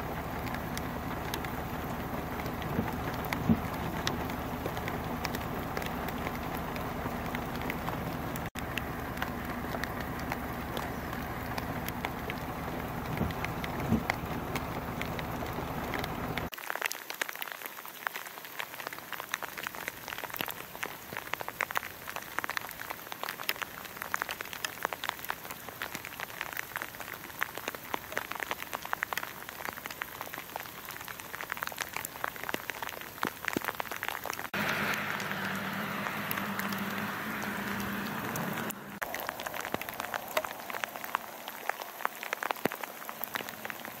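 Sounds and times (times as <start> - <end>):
freezing rain ticking: 0.0 - 44.0.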